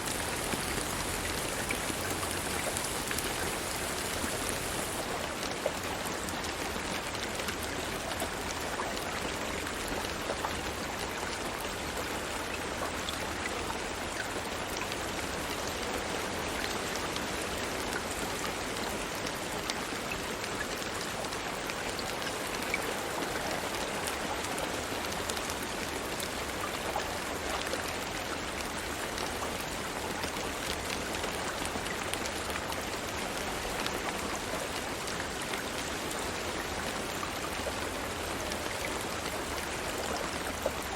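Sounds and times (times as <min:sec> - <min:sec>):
rain drops pattering: 0:00.0 - 0:40.9.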